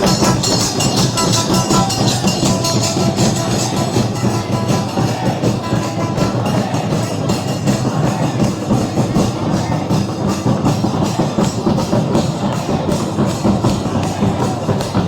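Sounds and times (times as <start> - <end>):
music with driving drum beat: 0.0 - 15.0.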